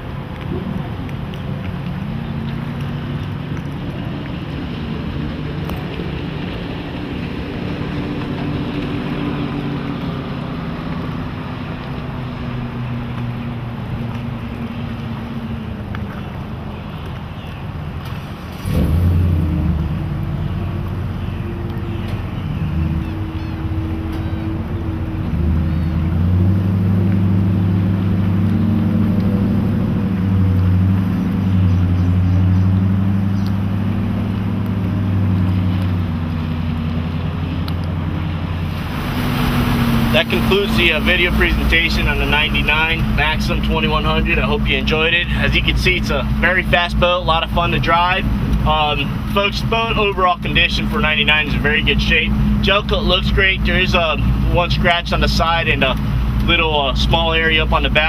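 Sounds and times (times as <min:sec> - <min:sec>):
boat engine running: 0:00.0 - 0:58.0
water rushing under hull: 0:00.0 - 0:58.0.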